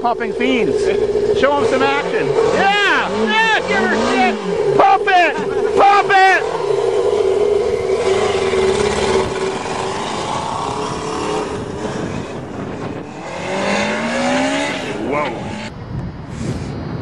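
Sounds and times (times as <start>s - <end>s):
motorcycle engine revving: 0.0s - 16.3s.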